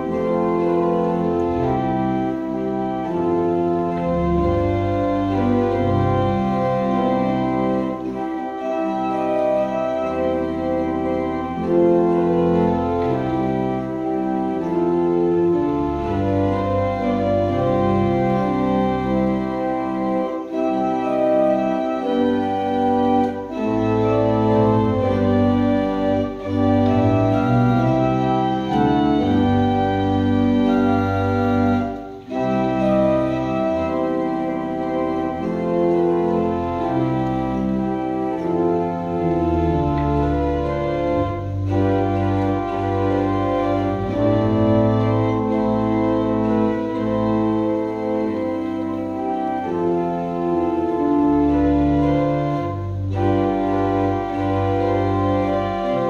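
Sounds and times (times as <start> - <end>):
organ playing a slow hymn: 0.0 - 56.0.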